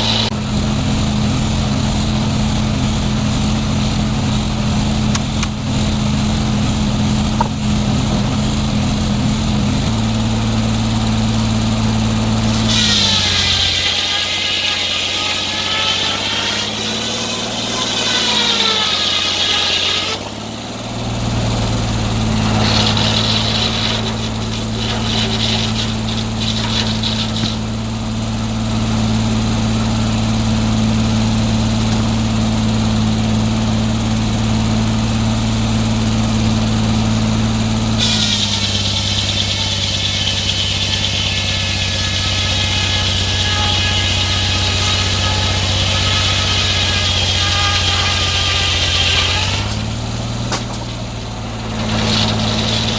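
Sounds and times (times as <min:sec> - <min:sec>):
sawmill engine humming: 0:00.0 - 0:52.9.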